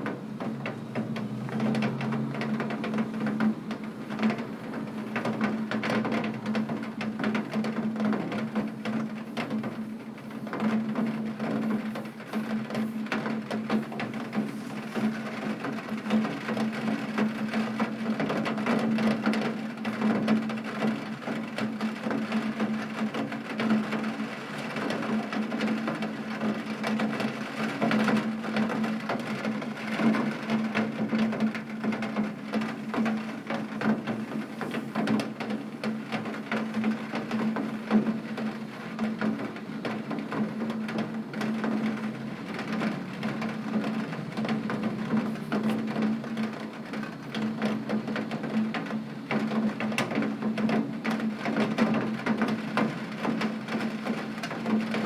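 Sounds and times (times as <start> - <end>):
heavy rain on window: 0.0 - 55.0.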